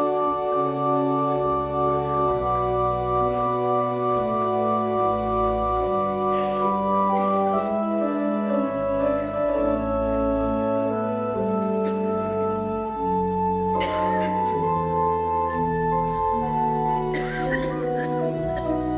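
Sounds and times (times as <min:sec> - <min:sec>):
church organ playing chords: 0:00.0 - 0:18.9.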